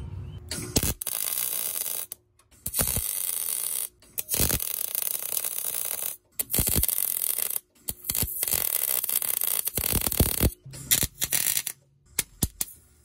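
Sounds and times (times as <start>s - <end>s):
welder arc crackling and sizzling: 0.8s - 11.7s.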